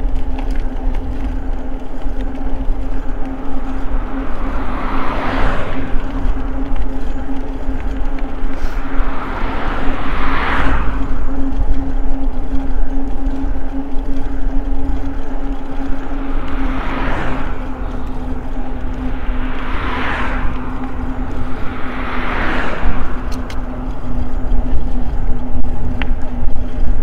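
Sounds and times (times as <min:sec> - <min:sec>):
cars passing with tyre noise: 0:00.0 - 0:27.0
e-bike motor hum: 0:00.0 - 0:27.0
wind rumble: 0:00.0 - 0:27.0.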